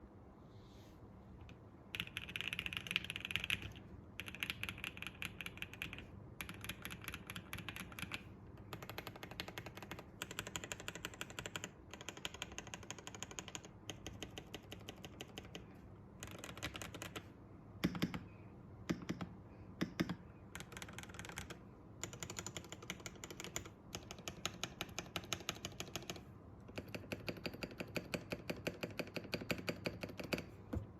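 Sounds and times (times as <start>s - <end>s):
mechanical keyboard typing: 1.9s - 30.6s.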